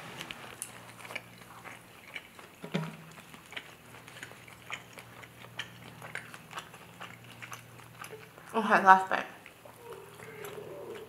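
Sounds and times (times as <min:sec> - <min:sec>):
faint low hum: 0:00.0 - 0:11.0
mouth chewing noodles: 0:00.0 - 0:11.0.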